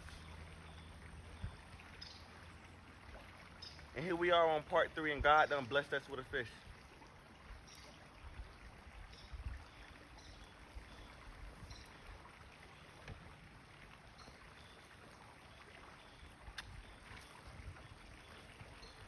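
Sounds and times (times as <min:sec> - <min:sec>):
faint water: 0:00.0 - 0:19.0.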